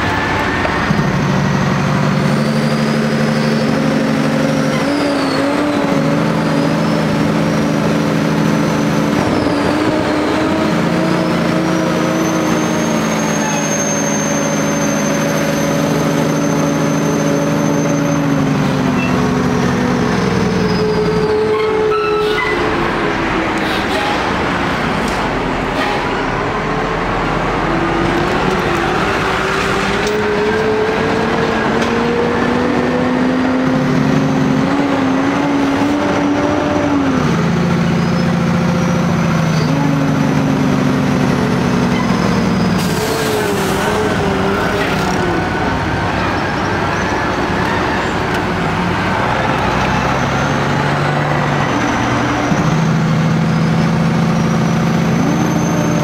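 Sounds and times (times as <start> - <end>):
road and cab noise: 0.0 - 56.0
truck diesel engine running: 0.0 - 56.0.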